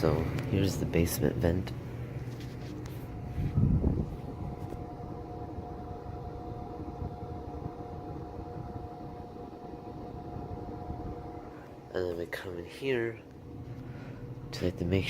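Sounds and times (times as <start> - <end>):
air rushing from vent: 0.0 - 15.0
faint blower hum: 0.0 - 15.0.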